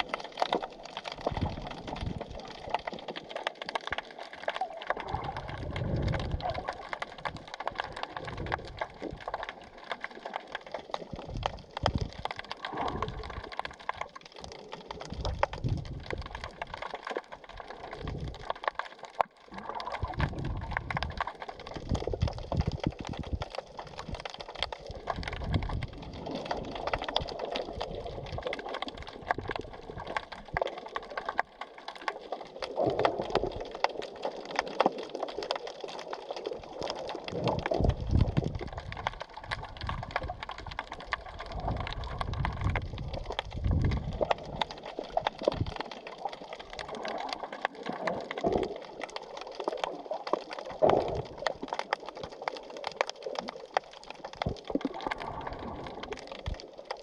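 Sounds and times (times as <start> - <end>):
rushes of moving water: 0.0 - 57.0
underwater crackle of clicks: 0.0 - 57.0.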